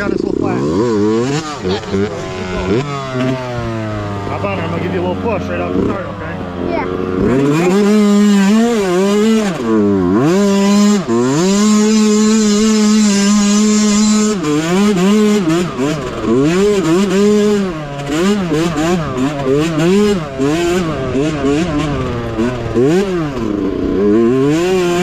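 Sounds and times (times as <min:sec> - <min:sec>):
small engine revving: 0:00.0 - 0:25.0.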